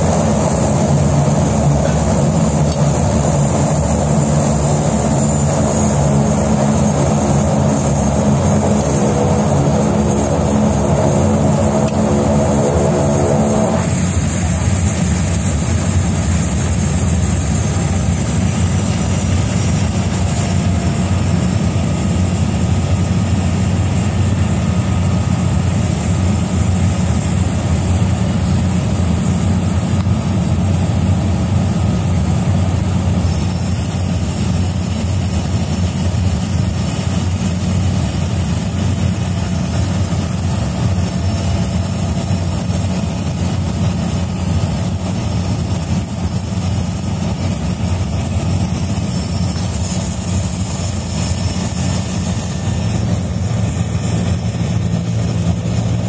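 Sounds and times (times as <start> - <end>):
high thin whine: 0.0 - 56.0
turboprop engine droning: 0.0 - 56.0.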